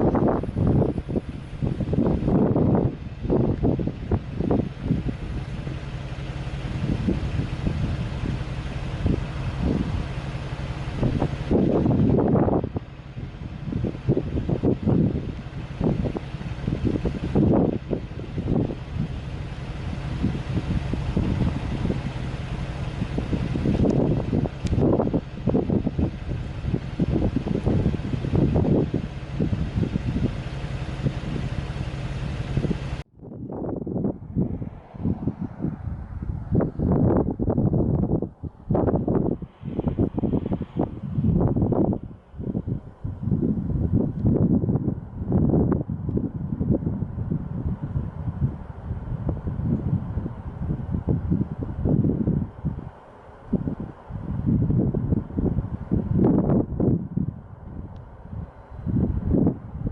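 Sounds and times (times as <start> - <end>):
low mechanical hum: 0.0 - 59.9
steady rushing noise: 0.0 - 59.9
wind buffeting microphone: 0.0 - 59.9.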